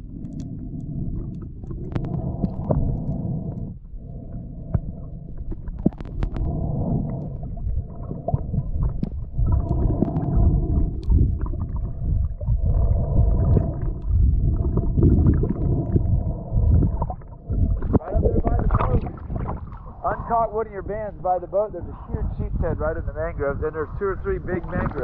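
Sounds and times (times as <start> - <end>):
underwater rumble of moving water: 0.0 - 25.0.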